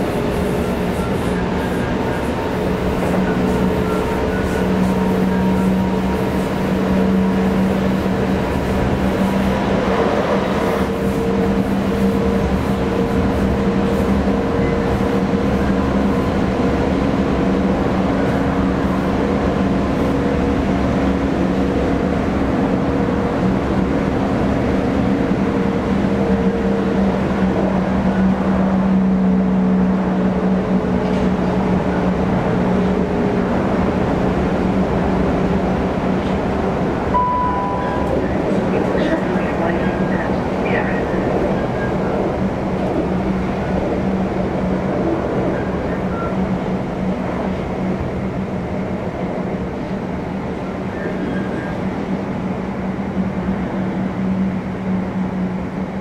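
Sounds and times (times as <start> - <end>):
electric train traction hum: 0.0 - 56.0
wheels rumbling on rail: 0.0 - 56.0.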